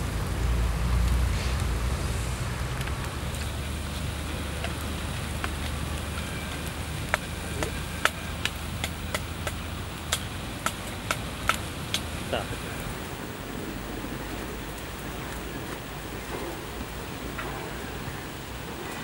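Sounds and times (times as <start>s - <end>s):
sharp crackling pops: 0.0s - 19.0s.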